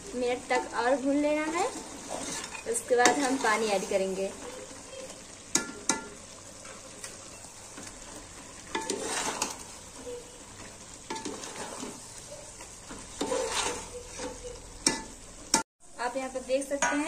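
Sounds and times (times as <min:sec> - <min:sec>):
meat sizzling in a pot: 0:00.0 - 0:17.0
ladle stirring and scraping: 0:00.3 - 0:15.6.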